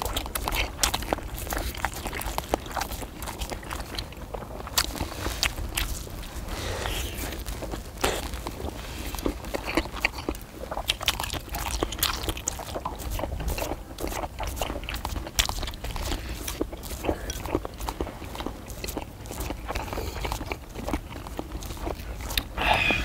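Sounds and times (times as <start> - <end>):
steady low rumble: 0.0 - 12.2, 12.8 - 23.0
people chewing: 0.0 - 23.0.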